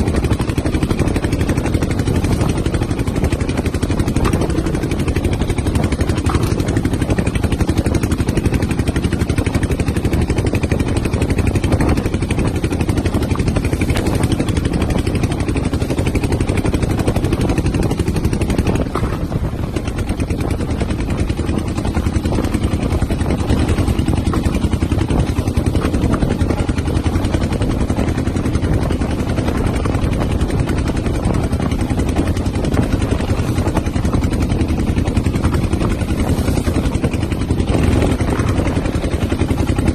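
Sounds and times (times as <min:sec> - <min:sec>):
boat engine rumble: 0:00.0 - 0:39.9
wind buffeting microphone: 0:00.0 - 0:39.9.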